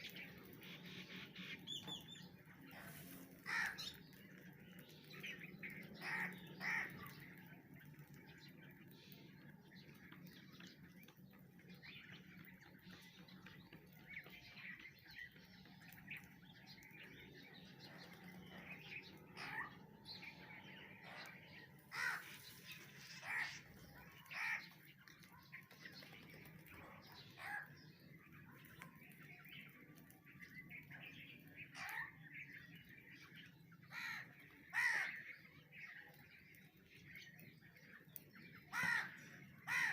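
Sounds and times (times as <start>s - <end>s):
birds harsh calls: 0.0s - 39.9s.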